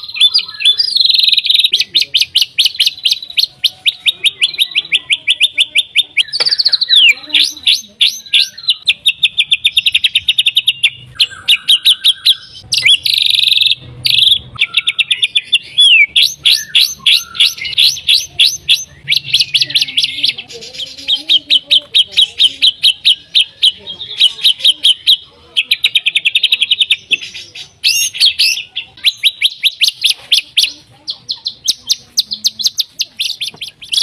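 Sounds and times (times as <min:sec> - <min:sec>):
bird singing: 0:00.0 - 0:34.0.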